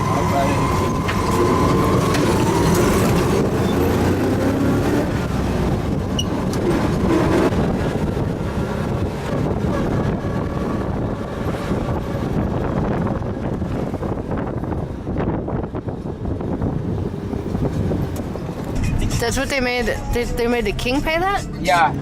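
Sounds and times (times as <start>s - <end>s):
vehicle rumble and road noise: 0.0s - 22.0s.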